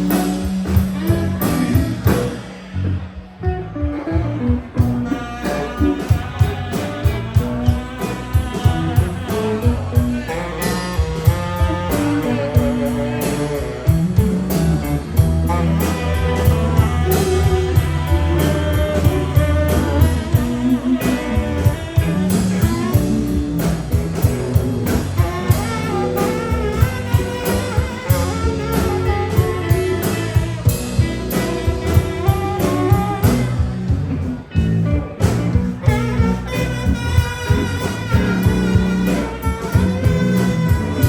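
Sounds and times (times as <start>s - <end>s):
picked guitar notes: 0.0s - 41.0s
steady beat: 0.0s - 41.0s
sustained bass: 0.0s - 41.0s.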